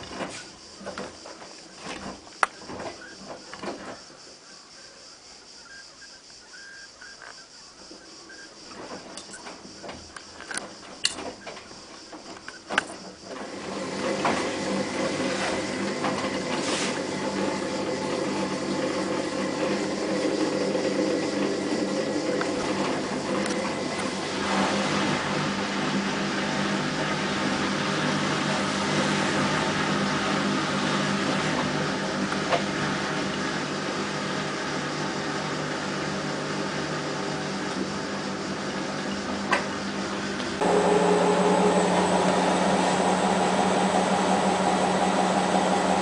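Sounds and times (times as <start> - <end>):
washing machine motor humming: 8.7 - 46.0.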